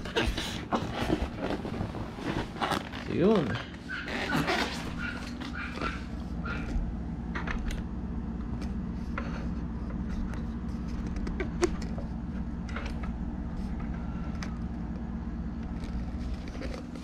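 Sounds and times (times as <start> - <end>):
low fan hum: 0.0 - 17.0.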